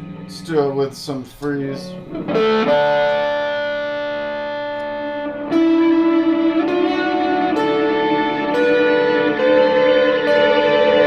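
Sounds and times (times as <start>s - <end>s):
sustained electric guitar chords: 0.0s - 11.0s.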